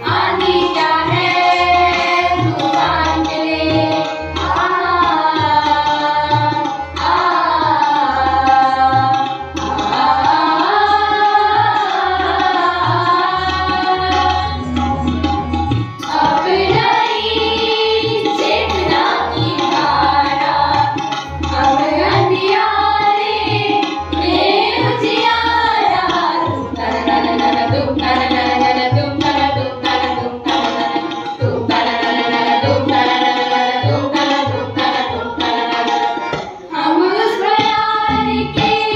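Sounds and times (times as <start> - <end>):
young voices singing together: 0.0 - 14.8, 16.0 - 38.9
harmonium: 0.0 - 38.9
tabla drums: 0.0 - 38.9.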